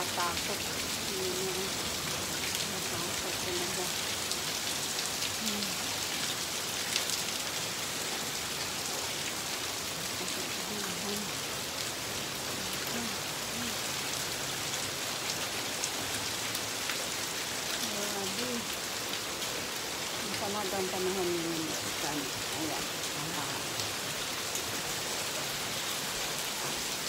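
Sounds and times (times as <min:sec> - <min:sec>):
heavy rain on street and roof: 0:00.0 - 0:27.0
sharp rain ticks: 0:00.0 - 0:27.0.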